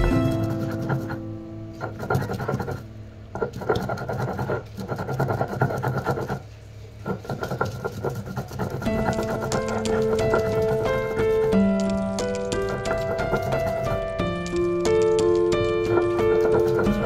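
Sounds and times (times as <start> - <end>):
stone roller grinding on stone: 0.0 - 17.0.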